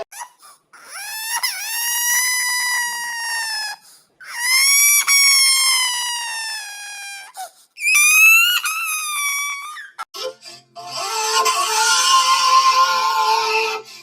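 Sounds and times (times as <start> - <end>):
baby crying: 0.0 - 13.9.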